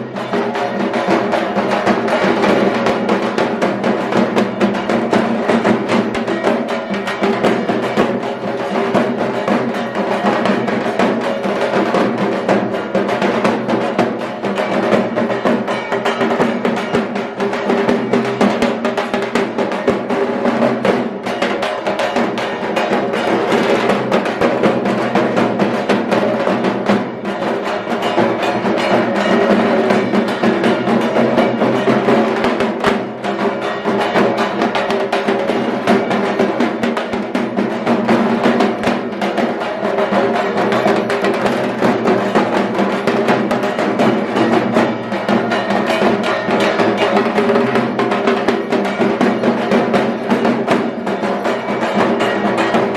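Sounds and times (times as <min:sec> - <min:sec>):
fast continuous drumming: 0:00.0 - 0:52.9
music: 0:00.0 - 0:52.9.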